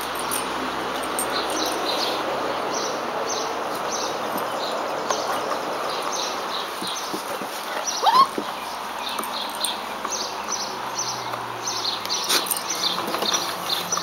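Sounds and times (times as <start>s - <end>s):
small birds chirping: 1.0s - 14.0s.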